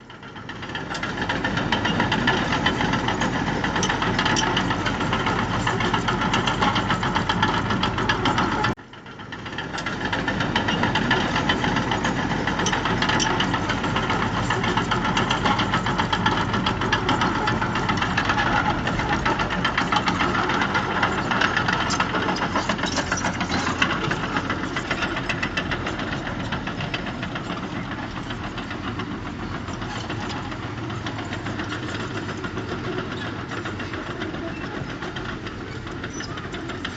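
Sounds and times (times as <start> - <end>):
heavy diesel engine clattering: 0.0 - 36.9.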